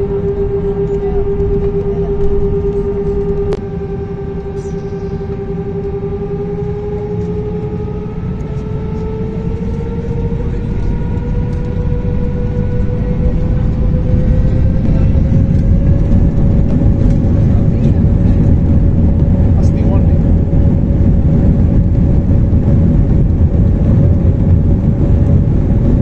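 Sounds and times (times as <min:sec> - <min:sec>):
jet engine whine: 0:00.0 - 0:26.0
low engine rumble: 0:00.0 - 0:26.0.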